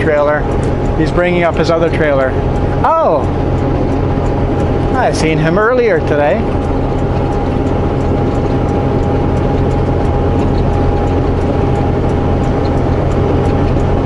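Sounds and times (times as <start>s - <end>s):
rapid ticking: 0.0s - 14.0s
truck diesel engine running: 0.0s - 14.0s.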